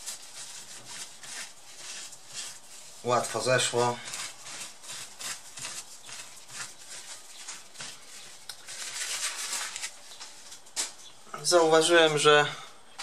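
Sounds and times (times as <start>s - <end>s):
tissue rubbing and rustling: 0.0s - 12.0s.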